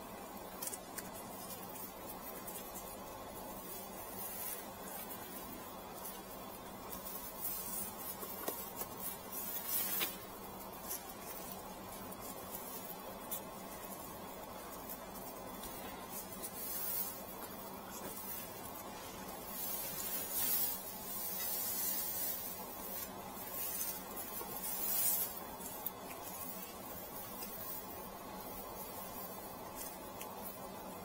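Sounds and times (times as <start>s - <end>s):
dry straw rustling and crackling: 0.0s - 31.0s
low room hum: 0.0s - 31.0s.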